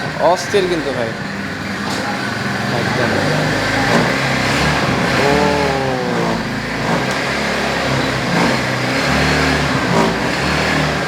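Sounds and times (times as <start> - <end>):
go-kart engine revving: 0.0 - 11.0.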